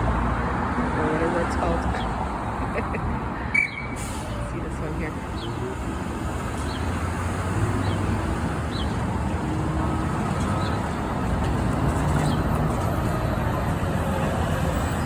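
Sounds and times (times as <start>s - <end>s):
bus engine running: 0.0s - 3.4s, 4.0s - 15.0s
road traffic noise: 0.0s - 15.0s.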